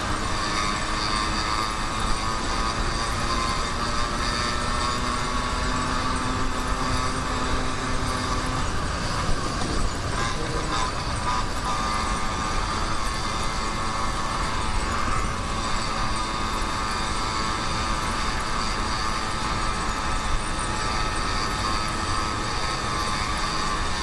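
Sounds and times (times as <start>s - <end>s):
two-stroke engine running: 0.0s - 24.0s.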